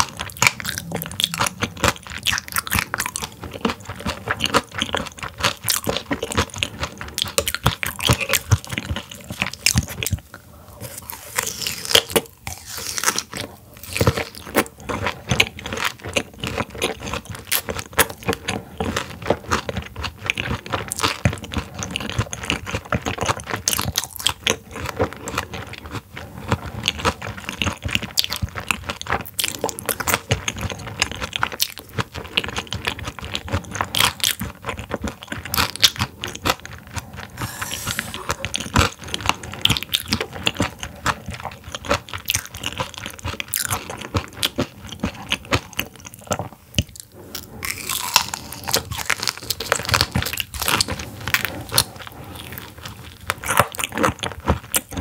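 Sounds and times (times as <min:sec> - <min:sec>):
crunchy chewing: 0:00.0 - 0:10.2, 0:10.8 - 0:55.0.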